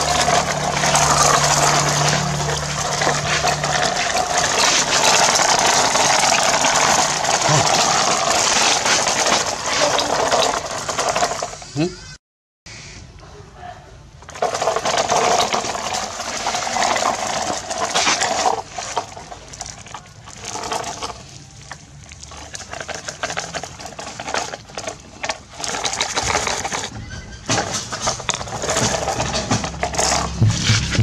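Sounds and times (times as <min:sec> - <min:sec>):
sand and pebbles pouring from plastic: 0:00.0 - 0:11.6, 0:14.2 - 0:26.9, 0:27.7 - 0:31.0.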